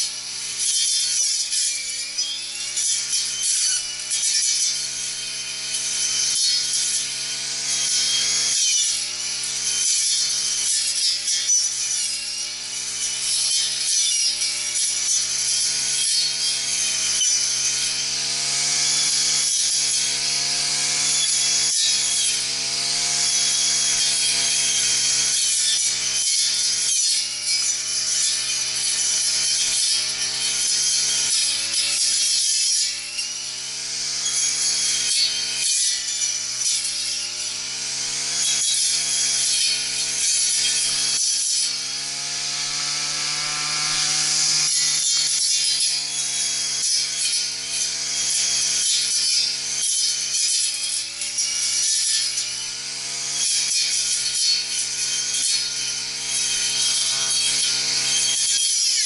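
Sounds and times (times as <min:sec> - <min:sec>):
brush cutter engine running: 0:00.0 - 0:59.0
hiss of cutting grass: 0:00.0 - 0:59.0.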